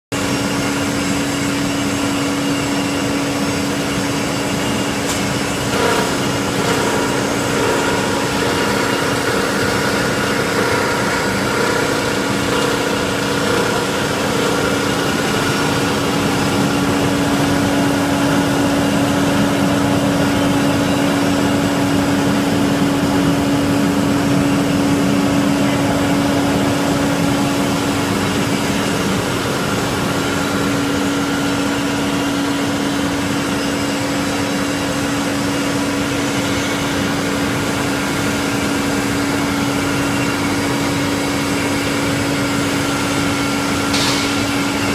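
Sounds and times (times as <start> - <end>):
higher machine tone: 0.2 - 38.1
wire shredder machine drone: 0.2 - 44.9.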